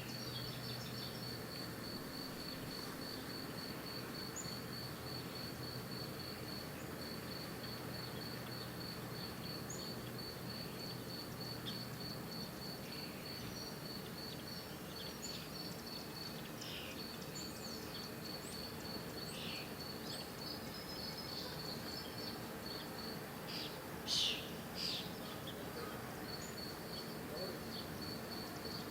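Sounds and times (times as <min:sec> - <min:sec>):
cricket chirping: 0:00.0 - 0:28.9.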